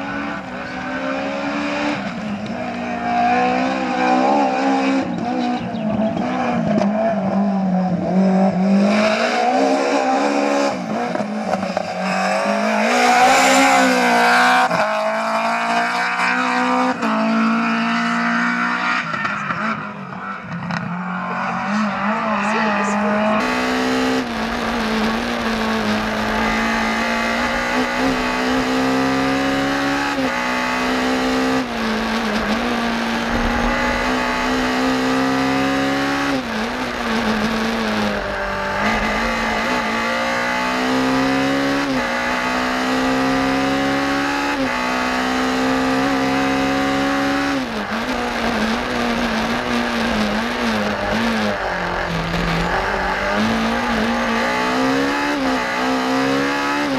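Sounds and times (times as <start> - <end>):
rally car engine at high revs: 0.0 - 56.9.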